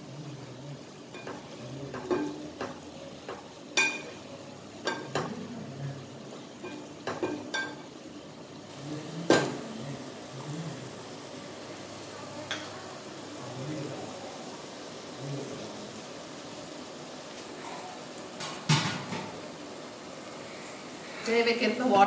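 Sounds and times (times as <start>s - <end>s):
frying sizzle: 0.0s - 22.0s.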